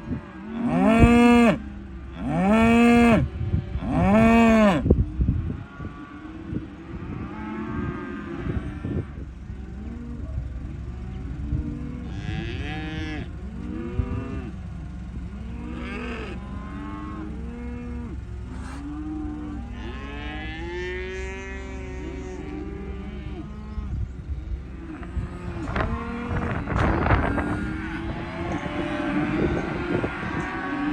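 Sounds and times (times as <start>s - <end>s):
cattle mooing: 0.0s - 4.9s, 5.5s - 10.3s, 10.9s - 24.1s, 24.8s - 30.9s
steady low rumble: 0.0s - 30.9s.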